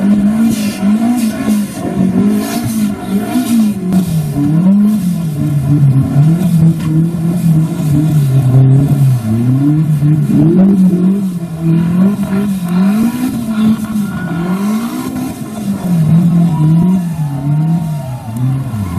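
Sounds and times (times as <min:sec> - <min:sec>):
engine revving: 0:00.0 - 0:18.9.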